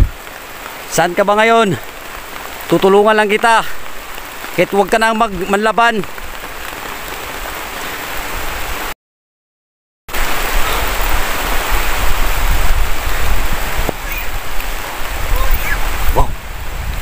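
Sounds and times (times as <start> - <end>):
heavy rain on foliage: 0.0 - 9.0, 10.1 - 17.0.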